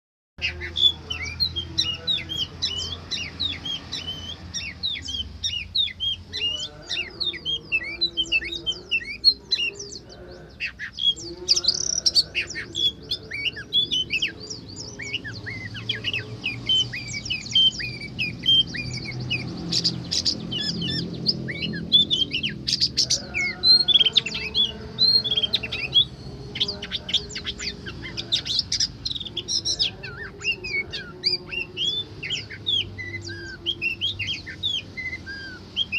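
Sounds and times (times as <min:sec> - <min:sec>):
bird singing chirps and whistles: 0:00.4 - 0:10.0, 0:10.6 - 0:35.9.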